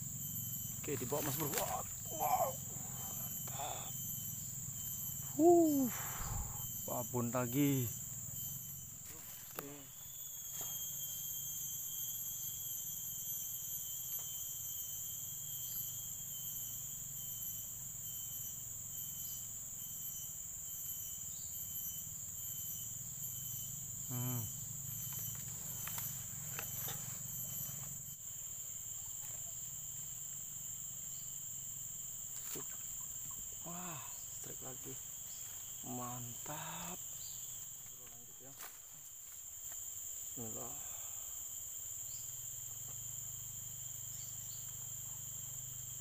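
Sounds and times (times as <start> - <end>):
insects chirring: 0.0 - 46.0.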